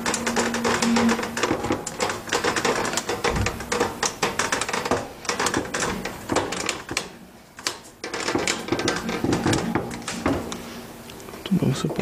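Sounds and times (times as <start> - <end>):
hard plastic clicking and clattering: 0.0 - 10.5.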